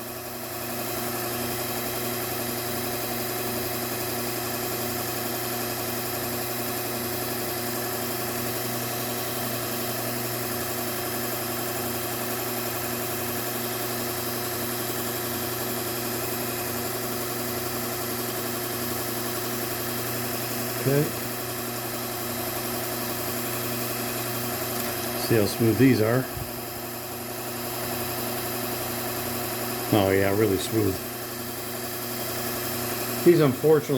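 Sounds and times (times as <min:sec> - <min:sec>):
belt grinder motor humming: 0:00.3 - 0:33.9.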